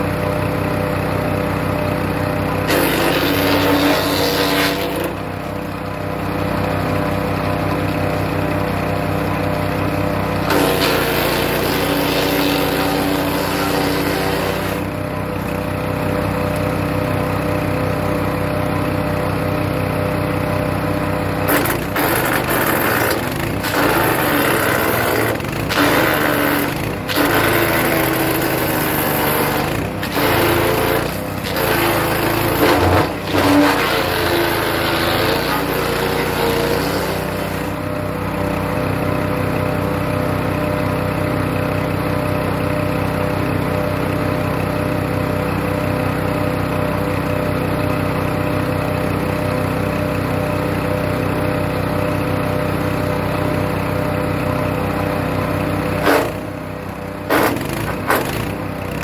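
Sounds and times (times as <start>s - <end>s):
wood chipper engine running: 0.0s - 59.0s.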